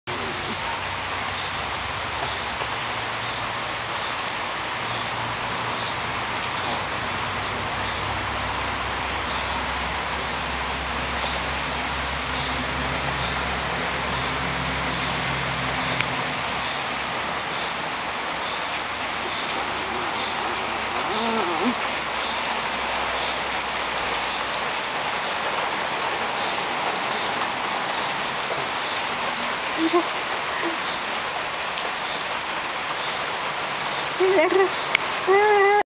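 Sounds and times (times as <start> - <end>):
rain on hard surfaces: 0.1 - 35.9
sharp drips: 0.2 - 35.8.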